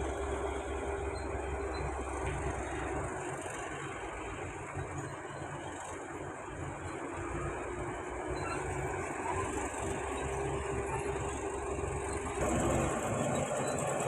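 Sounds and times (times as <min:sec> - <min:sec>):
heavy machinery running: 0:00.0 - 0:14.0.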